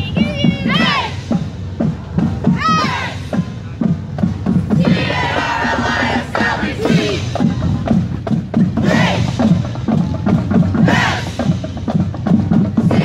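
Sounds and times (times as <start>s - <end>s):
marching drumline cadence: 0.0s - 13.0s.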